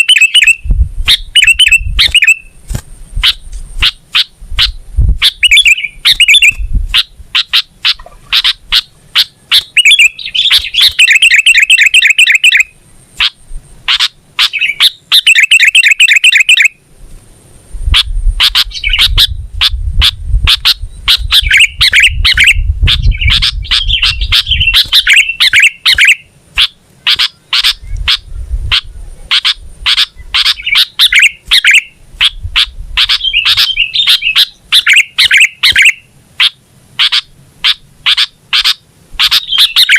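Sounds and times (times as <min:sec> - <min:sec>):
bird chirping and trilling: 0:00.0 - 0:16.8, 0:17.8 - 0:39.9.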